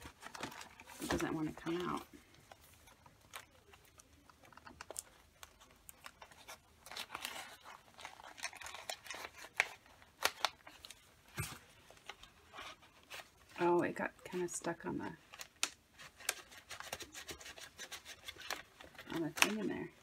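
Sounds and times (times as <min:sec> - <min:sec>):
pages flipping: 0:00.0 - 0:13.6, 0:15.3 - 0:19.7
paper rustling and crinkling: 0:00.0 - 0:14.5, 0:15.1 - 0:20.0.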